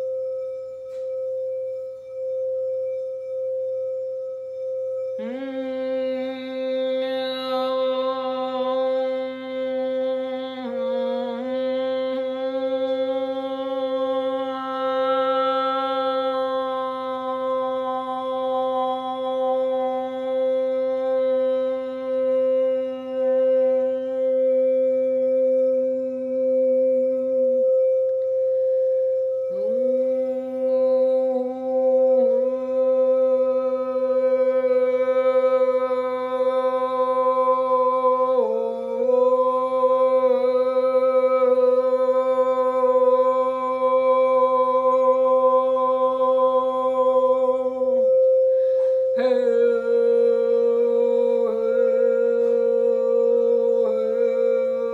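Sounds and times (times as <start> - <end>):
singing bowl ringing: 0.0 - 54.9
woman humming low note: 5.1 - 54.9.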